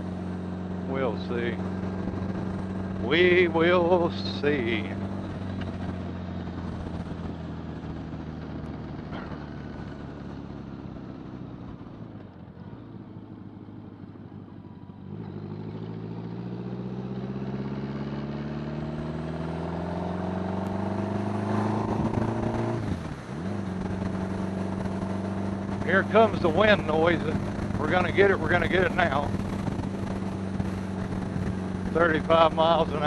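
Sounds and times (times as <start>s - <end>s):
motorcycle engine and exhaust: 0.0s - 33.0s.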